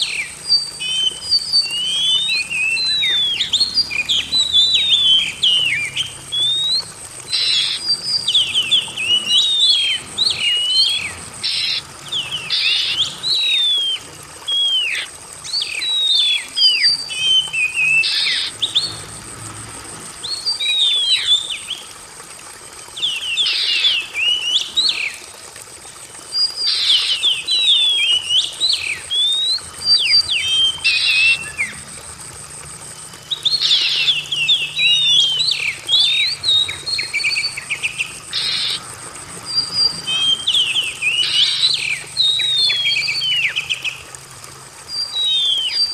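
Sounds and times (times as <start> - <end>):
songbird whistling song: 0.0 - 19.0, 20.2 - 21.9, 23.0 - 25.2, 26.3 - 31.8, 32.9 - 44.1, 44.8 - 45.9.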